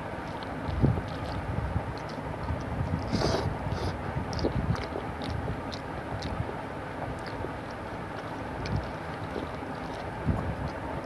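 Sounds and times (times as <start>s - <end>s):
low background rumble: 0.0s - 11.0s
chewing mouth clicks and smacks: 0.2s - 11.0s.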